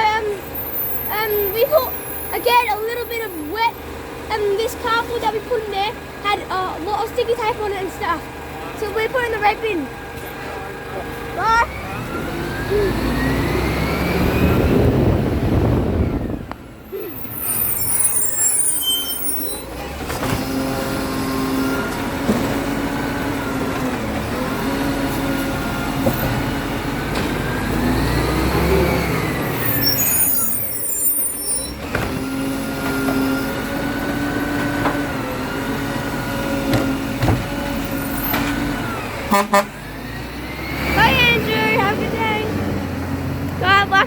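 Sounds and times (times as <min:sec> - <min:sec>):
garbage truck engine whining: 0:00.0 - 0:44.0.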